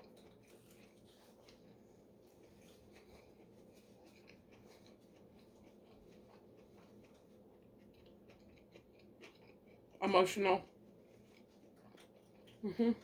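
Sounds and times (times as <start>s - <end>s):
quiet eating clicks: 0.0s - 12.6s.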